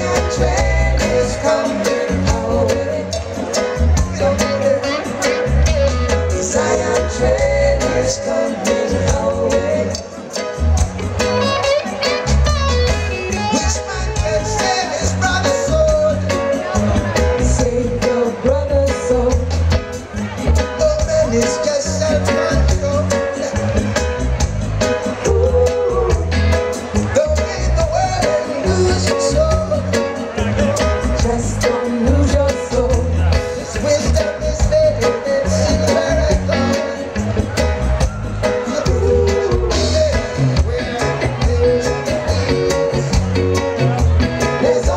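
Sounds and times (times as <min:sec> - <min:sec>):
bass line: 0:00.0 - 0:44.9
live reggae band: 0:00.0 - 0:44.9
man singing lead vocal: 0:00.0 - 0:44.9.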